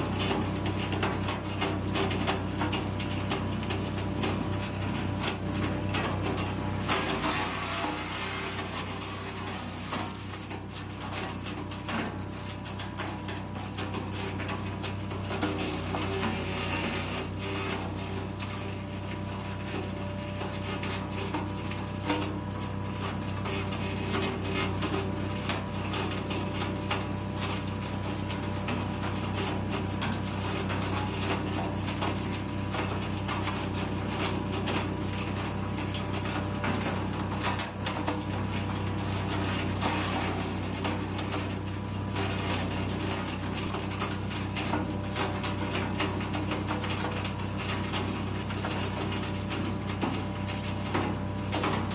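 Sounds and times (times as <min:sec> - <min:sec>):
wood chipper engine running: 0:00.0 - 0:51.9.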